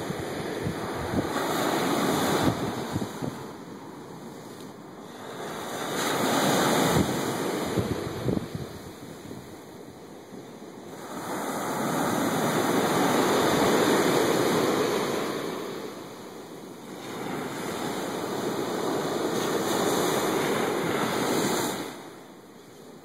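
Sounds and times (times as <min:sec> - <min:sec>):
ocean surf washing up beach: 0:00.0 - 0:23.0.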